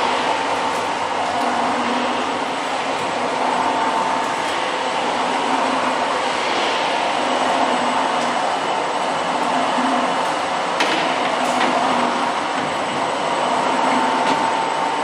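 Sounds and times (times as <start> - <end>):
factory machine noise: 0.0 - 15.0
faint whine and hum: 0.0 - 15.0.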